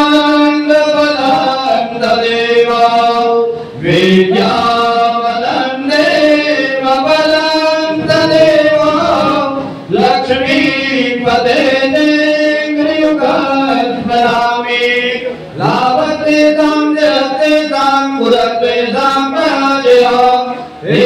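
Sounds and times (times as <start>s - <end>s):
person chanting melodically: 0.0s - 21.0s.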